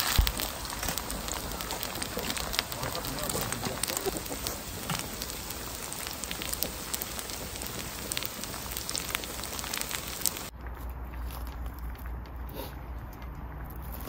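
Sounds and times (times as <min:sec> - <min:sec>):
oil sizzling with crackles: 0:00.0 - 0:14.0.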